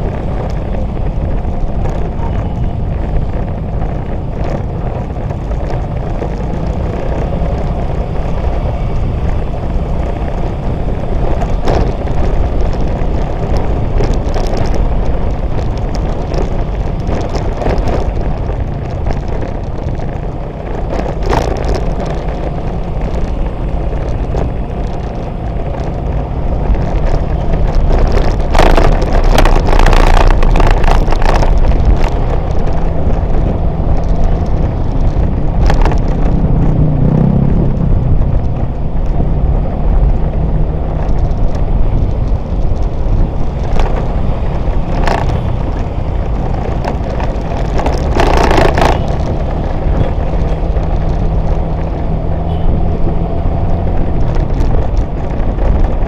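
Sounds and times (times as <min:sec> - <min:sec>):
motorbike engine rumble: 0:00.0 - 0:56.0
street traffic: 0:00.0 - 0:56.0
wind buffeting microphone: 0:00.0 - 0:56.0.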